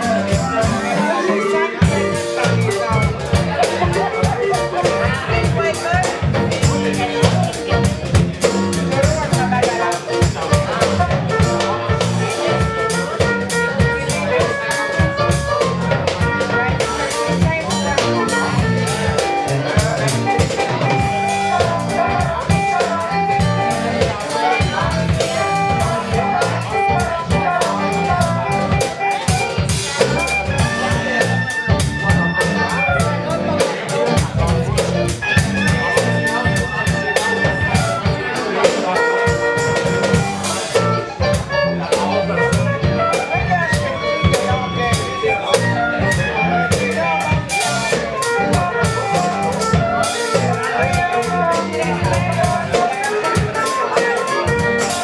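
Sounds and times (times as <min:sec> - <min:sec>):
drum kit beat: 0:00.0 - 0:55.0
electric bass: 0:00.0 - 0:55.0
guitar: 0:00.0 - 0:55.0
saxophone or flute: 0:00.0 - 0:55.0
wind instrument melody: 0:00.0 - 0:55.0.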